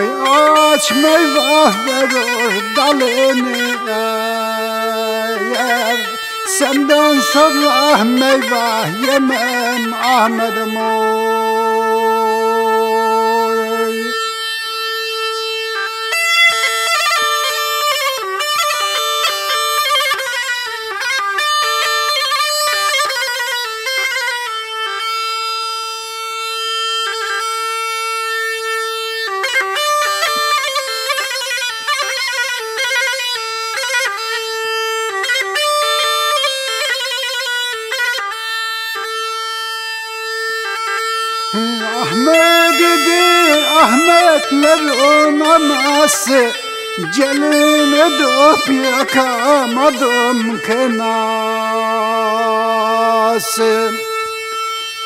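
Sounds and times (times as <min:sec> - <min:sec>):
bagpipe playing melodic runs: 0:00.0 - 0:55.0.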